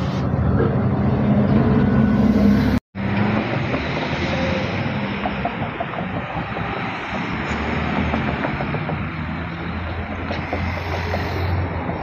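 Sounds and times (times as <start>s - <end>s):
bus engine humming: 0.0s - 12.0s
street traffic: 0.0s - 12.0s.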